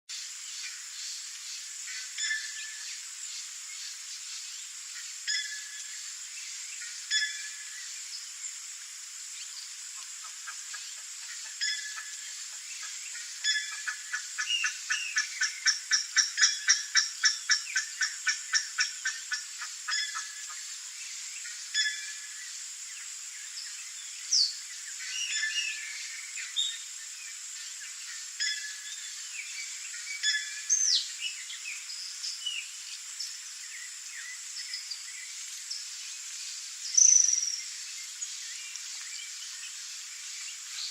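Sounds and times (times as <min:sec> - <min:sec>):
steady high hiss: 0:00.1 - 0:40.9.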